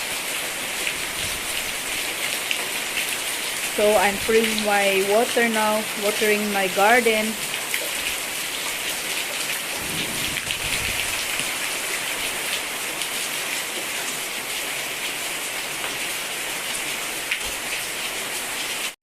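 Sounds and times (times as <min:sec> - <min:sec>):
heavy rain hissing: 0:00.0 - 0:18.9
raindrops ticking nearby: 0:00.1 - 0:19.0.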